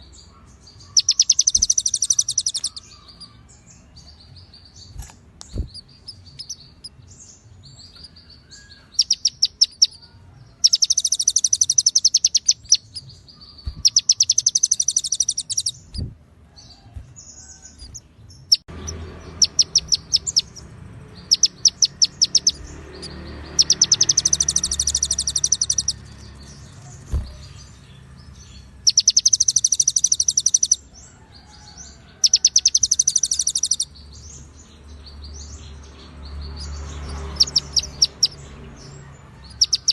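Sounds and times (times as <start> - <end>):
songbird chattering trills: 0.0 - 3.4, 4.0 - 16.1, 17.4 - 39.9.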